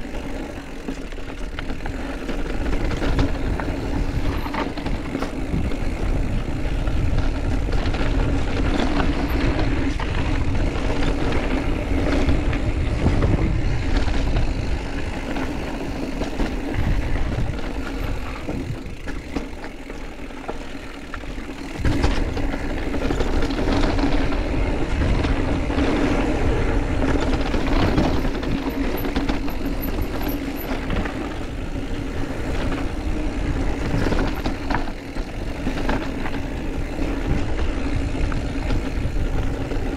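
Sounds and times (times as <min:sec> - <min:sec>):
bike rattling: 0:00.0 - 0:39.9
wind noise: 0:01.3 - 0:39.9.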